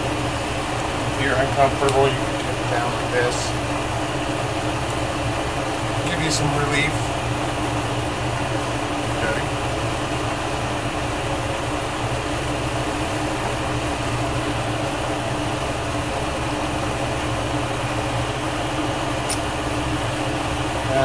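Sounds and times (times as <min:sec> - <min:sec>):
low machine hum: 0:00.0 - 0:21.0
torch flame roaring: 0:00.0 - 0:21.0.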